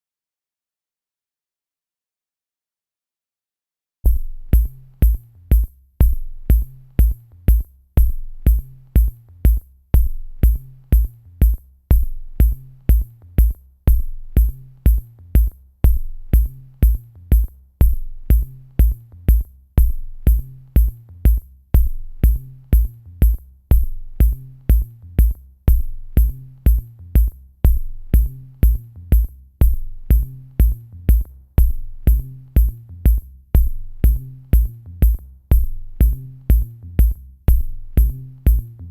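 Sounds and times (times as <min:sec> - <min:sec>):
deep kick drum: 0:04.1 - 0:38.9
hi-hat ticks: 0:04.1 - 0:38.9.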